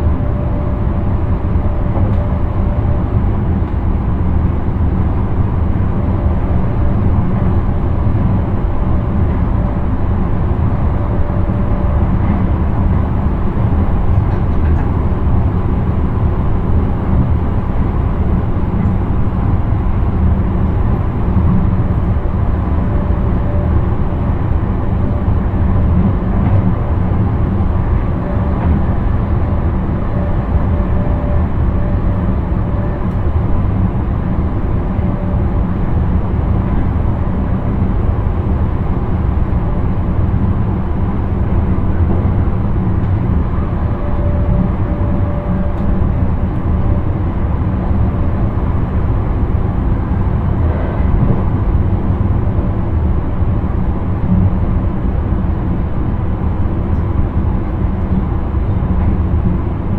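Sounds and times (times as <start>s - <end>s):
train running at speed: 0.0s - 59.9s.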